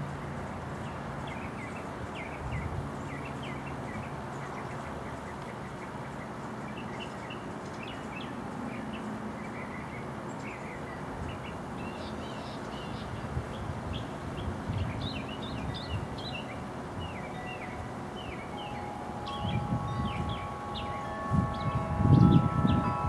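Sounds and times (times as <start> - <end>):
outdoor background noise: 0.0 - 23.0
small birds chirping: 0.8 - 23.0.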